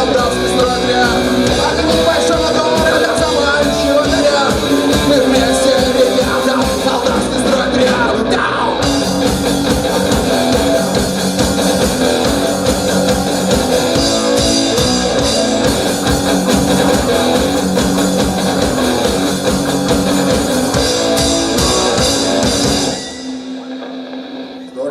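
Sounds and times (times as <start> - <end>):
steady drum beat: 0.0 - 23.7
electric guitar: 0.0 - 24.9.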